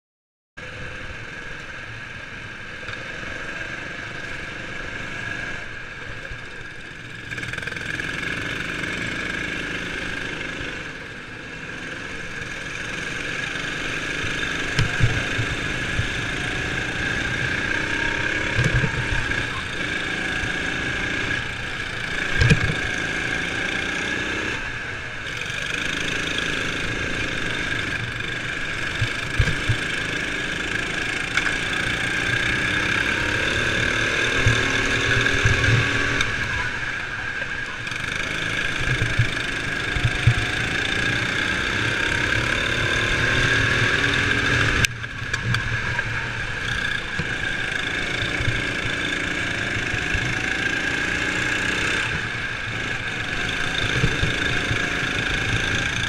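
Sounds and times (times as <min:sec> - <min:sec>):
kart engine racing: 0:00.6 - 0:56.0.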